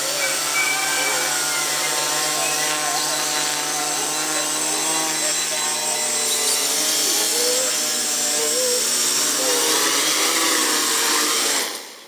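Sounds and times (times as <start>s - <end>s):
quadcopter motors buzzing: 0.0s - 12.0s.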